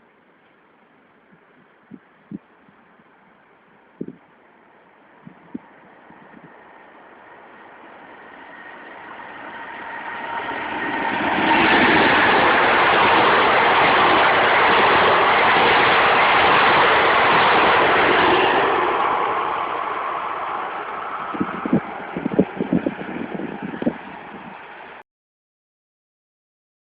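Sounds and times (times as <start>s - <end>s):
train passing: 3.0s - 25.0s.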